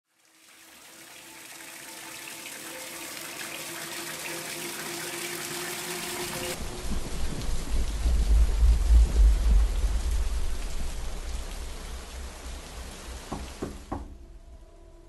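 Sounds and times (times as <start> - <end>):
rushing water-like noise: 0.1 - 14.1.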